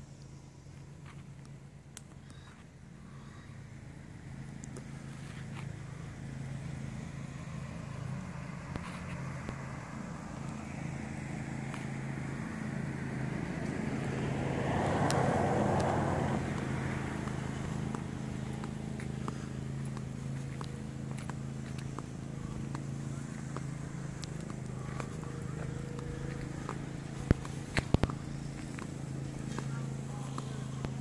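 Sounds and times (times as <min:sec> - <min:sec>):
car engine hum: 0:00.0 - 0:31.0
road and tyre noise: 0:00.0 - 0:31.0.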